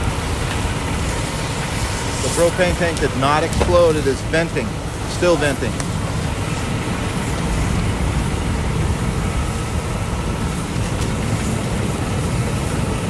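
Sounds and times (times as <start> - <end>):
fire roaring: 0.0 - 13.0
propane tank venting: 0.0 - 13.0.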